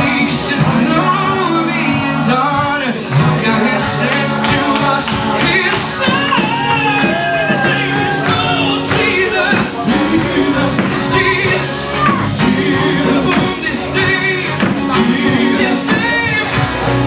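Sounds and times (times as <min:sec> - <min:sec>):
gospel band playing: 0:00.0 - 0:17.0
lead singer singing: 0:00.0 - 0:17.0.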